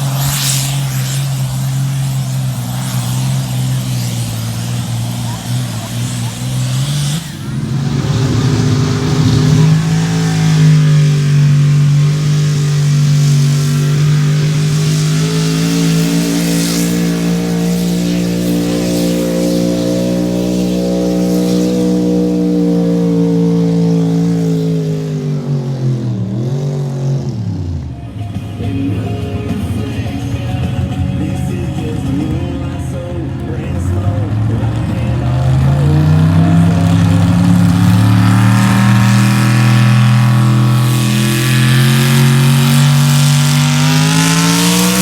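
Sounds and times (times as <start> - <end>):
truck engine at high revs: 0.0 - 45.0.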